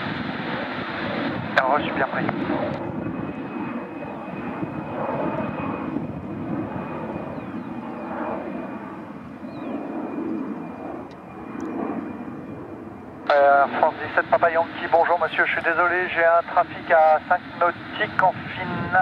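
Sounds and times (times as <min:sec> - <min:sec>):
faint high jet whine: 0:00.0 - 0:19.0
jet airliner landing rumble: 0:00.0 - 0:19.0.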